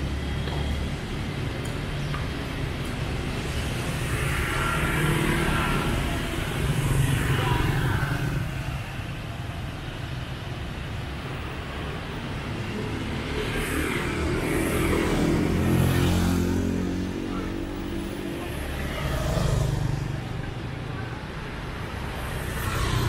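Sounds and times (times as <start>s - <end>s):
scooter engines humming: 0.0s - 23.0s
scooters and cars passing: 0.0s - 23.0s.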